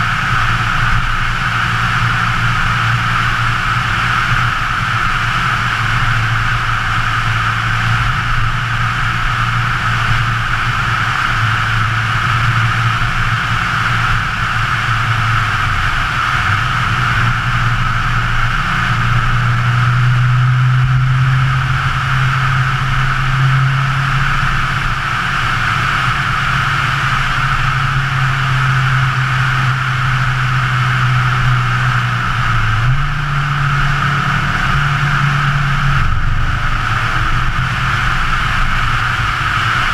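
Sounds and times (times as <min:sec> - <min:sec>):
car engine running: 0:00.0 - 0:39.9
wind and road noise: 0:00.0 - 0:39.9.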